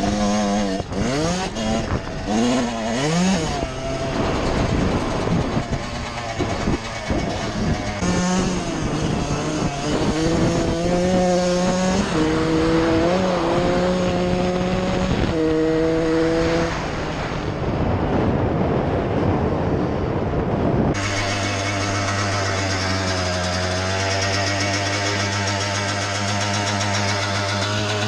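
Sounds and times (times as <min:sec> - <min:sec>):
two-stroke engine revving: 0:00.0 - 0:17.6, 0:20.9 - 0:28.0.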